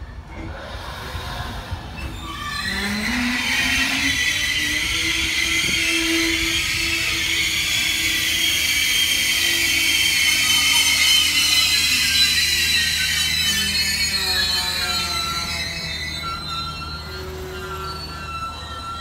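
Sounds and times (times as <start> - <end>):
high-pitched brake squeal: 0.0 - 19.0
train coaches rumbling: 0.0 - 19.0.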